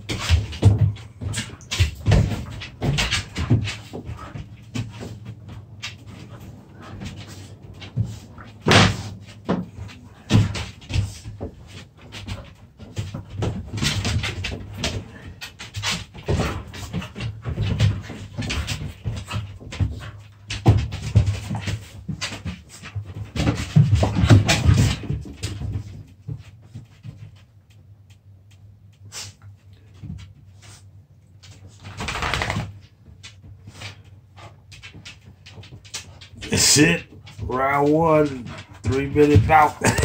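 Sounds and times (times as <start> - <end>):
puppies scuffling: 0.0 - 40.0.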